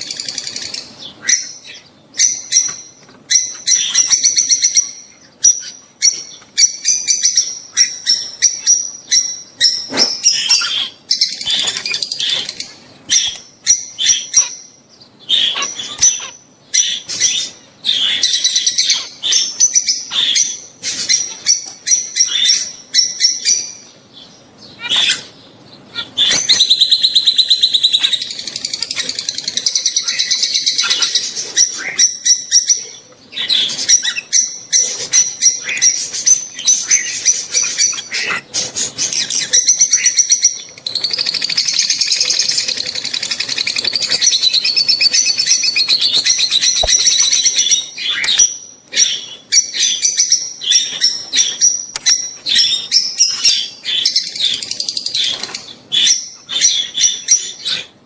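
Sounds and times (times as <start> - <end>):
lovebirds chattering: 0.0 - 58.0.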